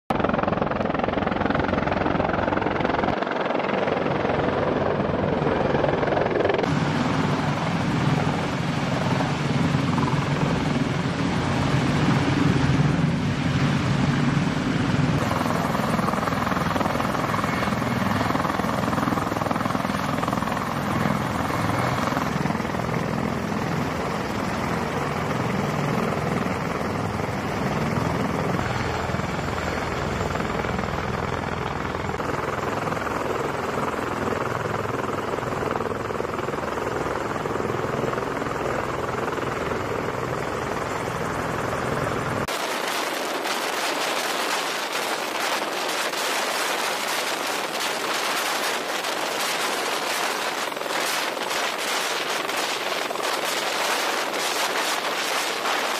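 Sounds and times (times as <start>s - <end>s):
helicopter rotor and turbine rumble: 0.1s - 55.9s.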